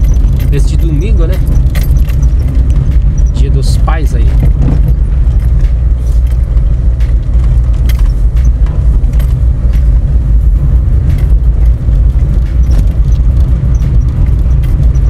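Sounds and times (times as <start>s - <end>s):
light clicks and rattles: 0.0s - 15.0s
tyres and engine rumbling: 0.0s - 15.0s.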